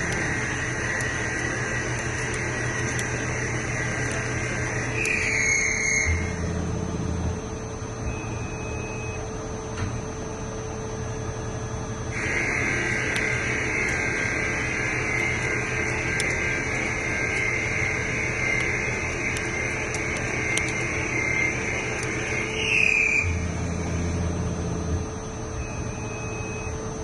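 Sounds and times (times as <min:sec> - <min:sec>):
lathe humming: 0:00.0 - 0:08.0, 0:12.0 - 0:26.0
high-pitched whine: 0:00.0 - 0:27.0.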